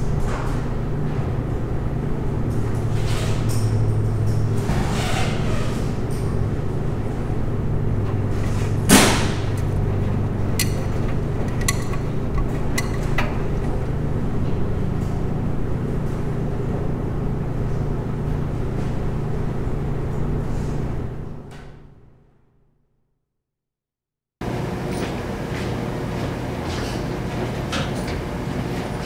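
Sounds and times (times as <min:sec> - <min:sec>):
low mechanical hum: 0:00.0 - 0:22.4, 0:24.4 - 0:29.0.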